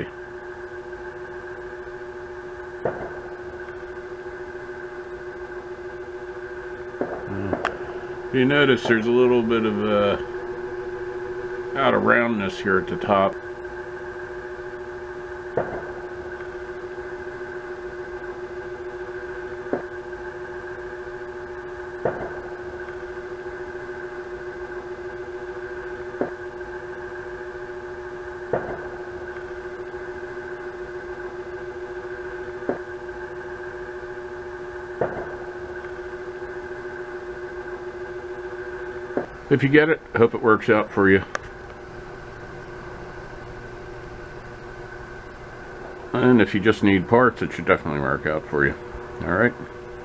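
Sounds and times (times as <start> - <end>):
ceiling fan motor humming: 0.0 - 50.0.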